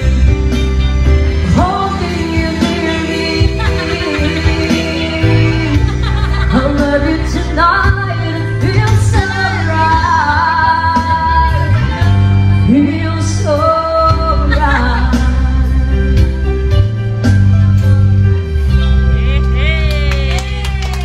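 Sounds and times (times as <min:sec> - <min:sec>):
backing music with guitar: 0:00.0 - 0:21.0.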